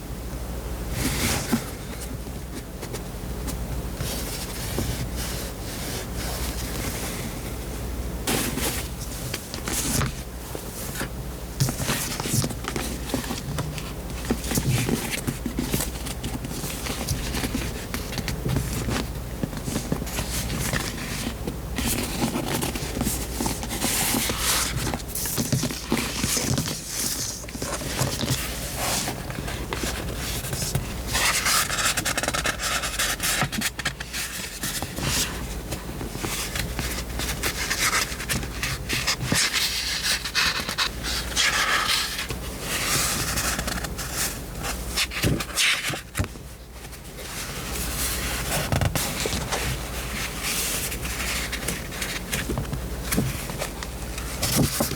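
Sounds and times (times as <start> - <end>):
low steady hum: 0.0 - 54.9
paper pages rustling: 8.3 - 54.9.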